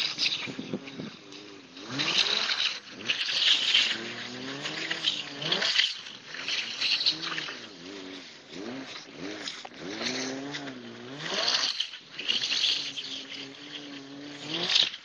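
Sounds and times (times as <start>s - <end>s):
car engine revving: 0.0s - 15.0s
tyres spinning on snow: 0.0s - 15.0s.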